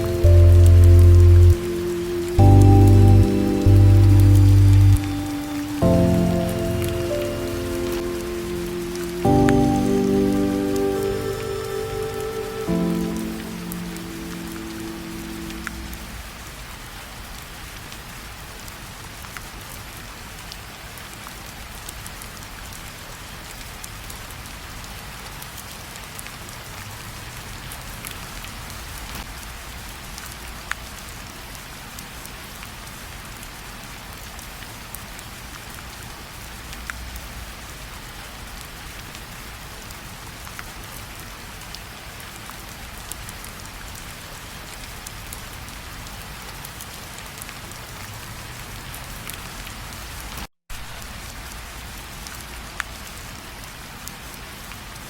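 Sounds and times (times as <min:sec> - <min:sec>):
steady rain falling: 0:00.0 - 0:55.0
ticks of raindrops: 0:00.0 - 0:55.0.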